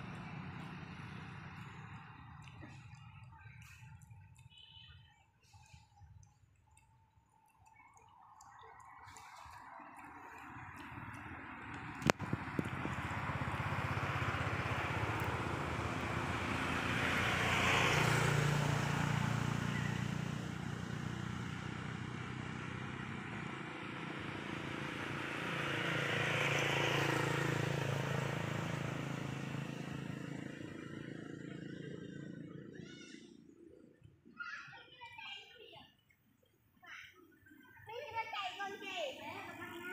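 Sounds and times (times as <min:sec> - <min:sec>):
vehicles passing by: 0:00.0 - 0:39.9.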